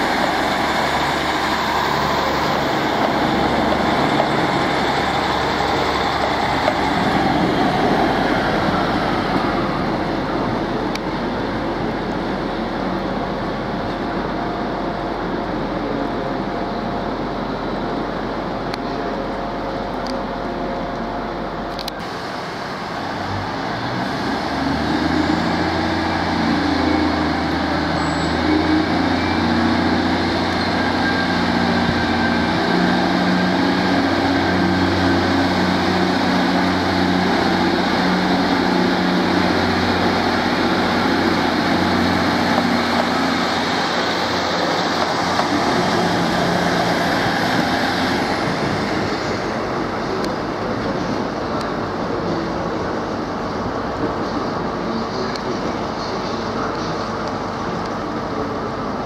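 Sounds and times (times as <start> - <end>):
train diesel engine running: 0.0 - 59.0.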